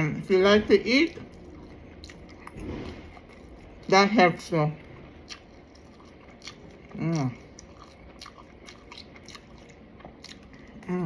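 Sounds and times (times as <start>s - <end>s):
chewing and biting fried food: 0.2s - 11.0s.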